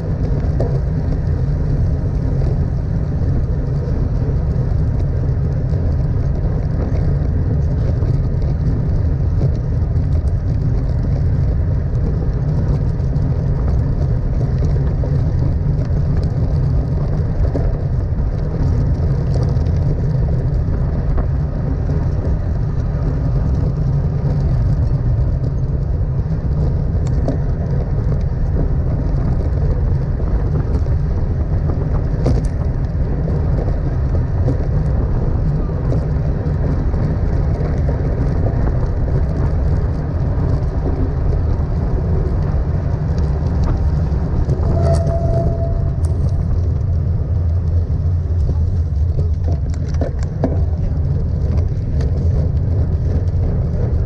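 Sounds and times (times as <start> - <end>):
tyre and road noise: 0.0 - 54.0
wind rushing over microphone: 0.0 - 54.0.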